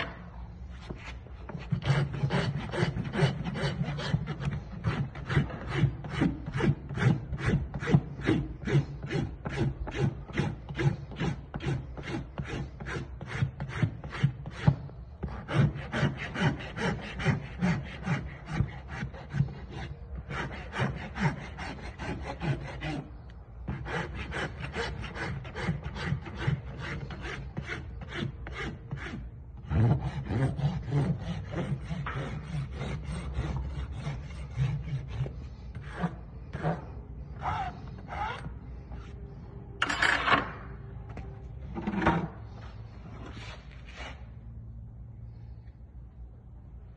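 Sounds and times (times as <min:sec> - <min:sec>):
rasp filing hoof: 0:00.8 - 0:39.2.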